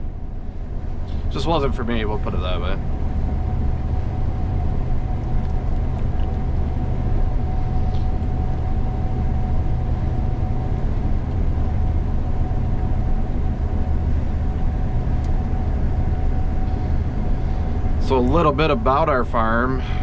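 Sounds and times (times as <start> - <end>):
combine harvester rumbling: 0.0 - 20.0
thin steady whine: 0.0 - 20.0.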